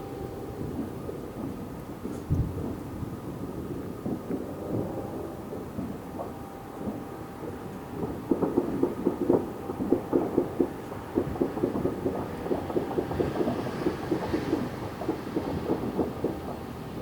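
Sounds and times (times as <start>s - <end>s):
distant fireworks bangs: 0.0s - 17.0s.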